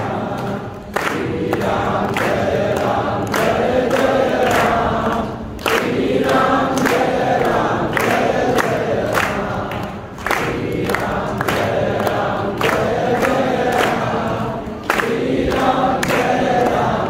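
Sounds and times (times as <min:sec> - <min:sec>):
chorus singing devotional song: 0:00.0 - 0:17.0.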